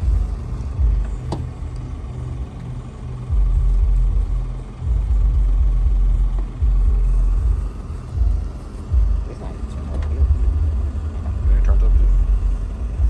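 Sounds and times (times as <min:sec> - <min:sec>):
deep subwoofer bass pulses: 0:00.0 - 0:13.0.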